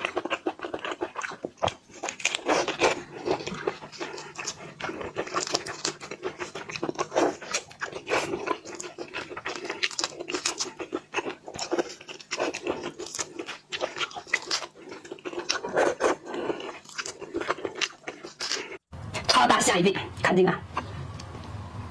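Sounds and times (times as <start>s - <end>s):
wet chewing and biting: 0.0s - 18.8s.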